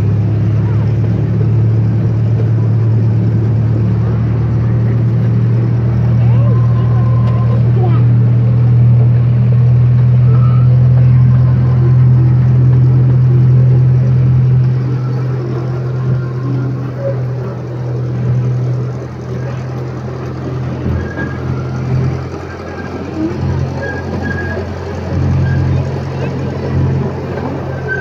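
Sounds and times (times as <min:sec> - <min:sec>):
train engine droning: 0:00.0 - 0:28.0.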